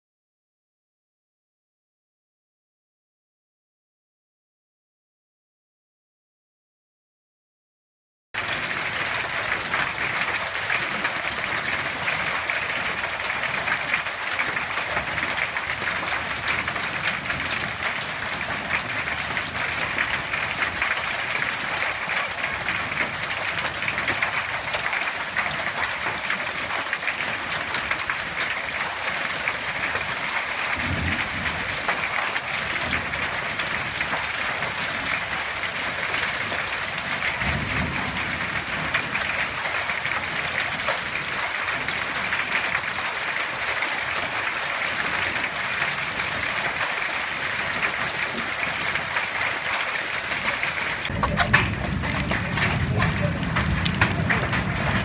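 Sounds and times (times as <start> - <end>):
heavy rain on foliage: 8.4 - 55.0.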